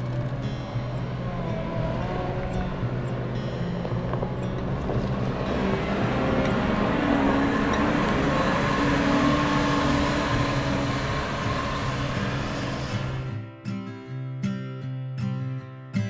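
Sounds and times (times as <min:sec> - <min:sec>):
diesel engine running under load: 0:00.0 - 0:13.3.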